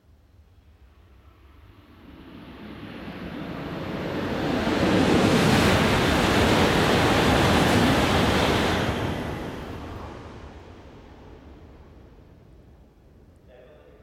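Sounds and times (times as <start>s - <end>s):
high speed train rushing past: 0.4s - 13.1s.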